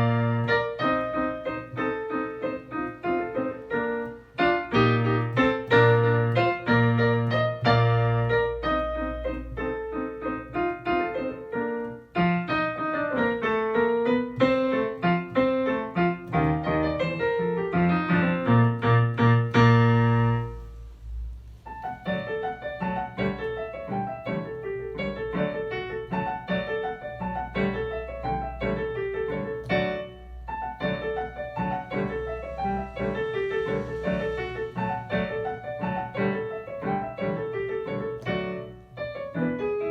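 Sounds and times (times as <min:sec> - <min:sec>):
solo piano classical piece: 0:00.0 - 0:39.9.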